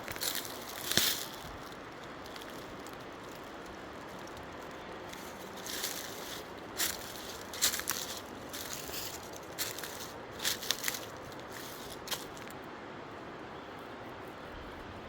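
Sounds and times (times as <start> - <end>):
footsteps crunching on dry ground: 0.0 - 12.6
faint outdoor hiss: 0.0 - 15.0.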